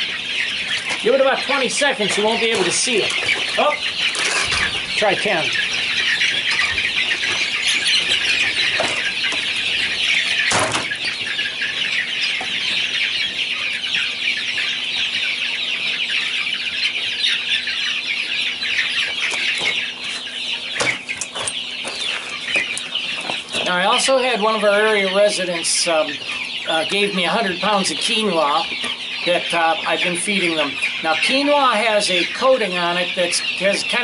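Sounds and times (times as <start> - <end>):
chicks peeping and cheeping: 0.0 - 34.0.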